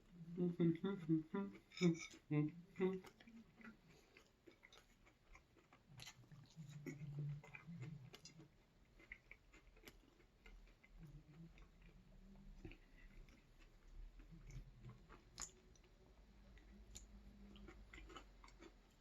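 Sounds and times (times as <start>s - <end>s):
chewing food: 0.1s - 19.0s.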